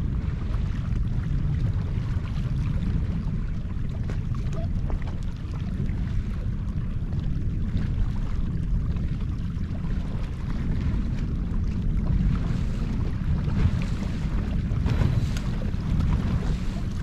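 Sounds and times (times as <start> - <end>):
water splashing against hull: 0.0 - 17.0
wind rumble on microphone: 0.0 - 17.0.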